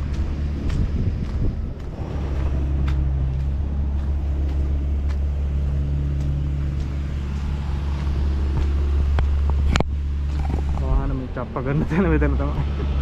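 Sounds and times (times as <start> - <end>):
faint footsteps on gravel: 0.0 - 10.9
engine running: 0.0 - 13.0.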